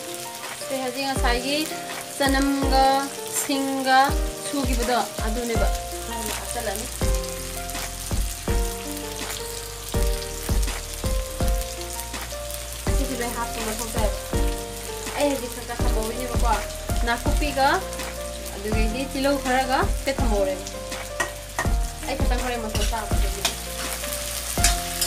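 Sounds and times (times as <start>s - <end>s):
background music: 0.0s - 25.0s
paste sizzling in hot oil: 0.0s - 25.0s.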